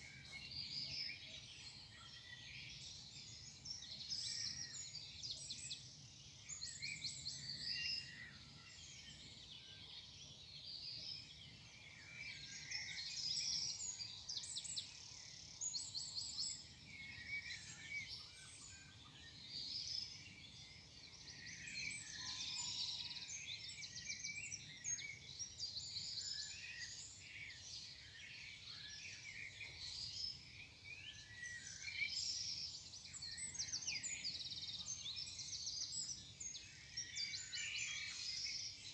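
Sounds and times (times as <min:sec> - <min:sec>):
small birds singing: 0:00.0 - 0:38.9.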